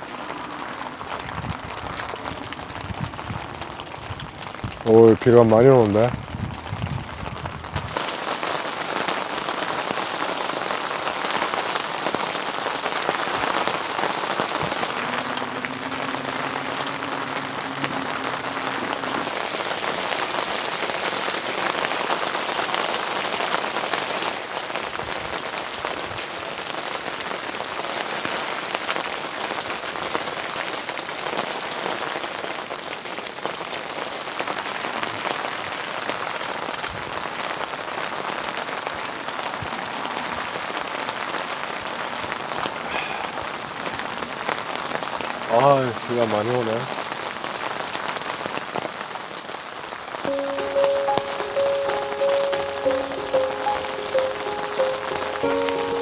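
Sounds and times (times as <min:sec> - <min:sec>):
heavy rain on a shelter: 0:00.0 - 0:56.0.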